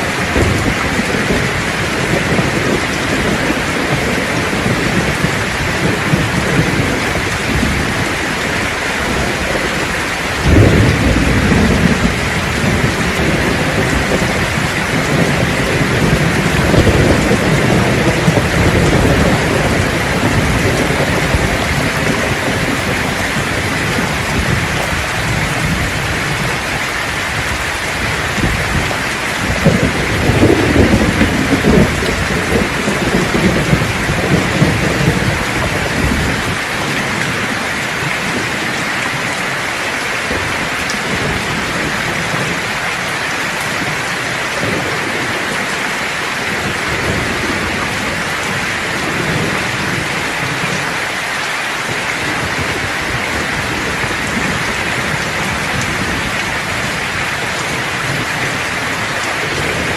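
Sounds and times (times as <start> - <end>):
thunder rumbling: 0.0 - 51.1, 51.8 - 59.9
heavy rain: 0.0 - 59.9.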